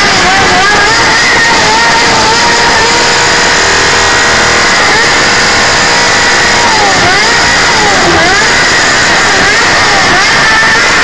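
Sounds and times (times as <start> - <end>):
motorcycle engine revving hard: 0.0 - 11.0.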